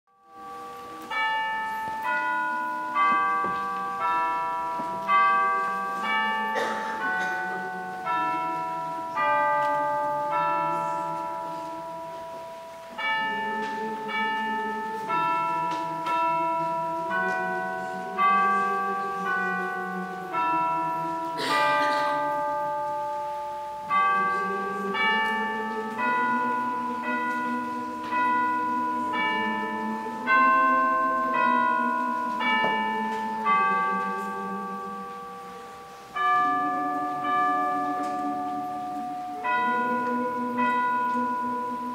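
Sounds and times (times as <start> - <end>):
bells playing slow melody: 0.1 - 41.9.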